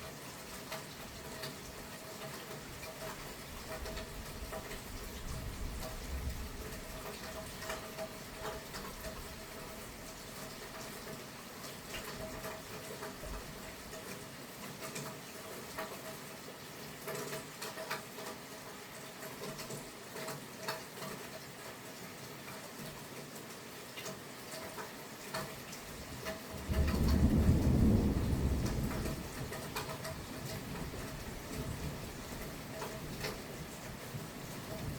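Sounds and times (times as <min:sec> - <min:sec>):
light rain hiss: 0:00.0 - 0:34.9
raindrops ticking on surfaces: 0:00.0 - 0:34.9.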